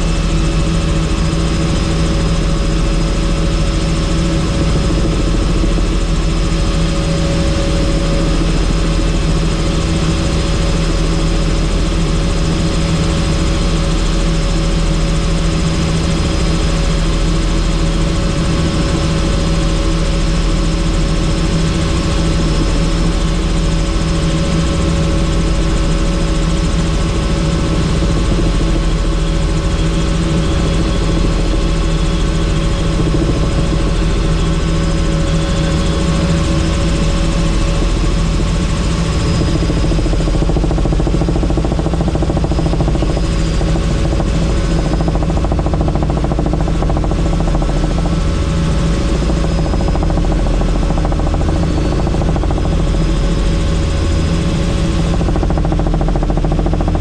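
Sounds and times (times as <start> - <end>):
helicopter turbine and rotor drone: 0.0 - 57.0.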